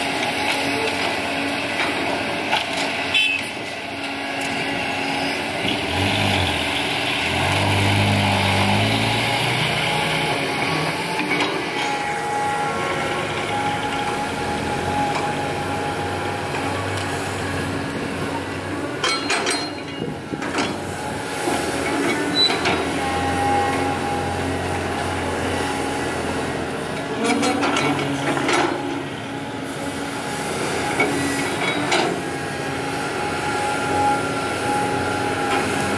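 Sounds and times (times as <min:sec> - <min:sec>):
excavator diesel engine under load: 0:00.0 - 0:35.9
dump truck engine pulling away: 0:04.3 - 0:19.0, 0:19.8 - 0:35.9.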